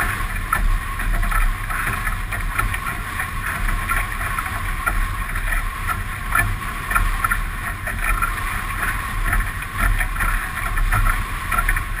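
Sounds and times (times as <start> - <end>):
water rushing along hull: 0.0 - 12.0
wind rumble on microphone: 0.0 - 12.0.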